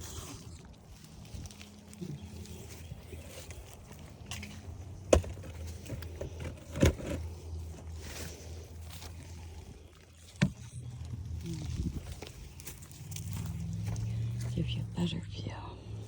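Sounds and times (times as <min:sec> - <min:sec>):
motorcycle engine humming: 0:00.0 - 0:16.0.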